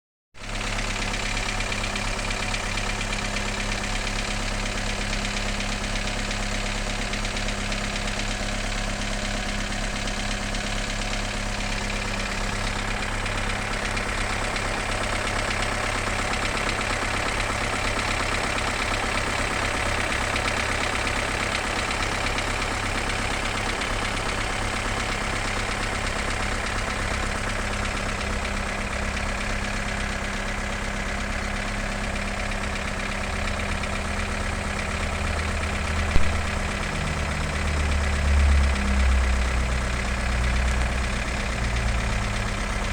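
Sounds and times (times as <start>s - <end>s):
car engine idling: 0.4s - 42.9s.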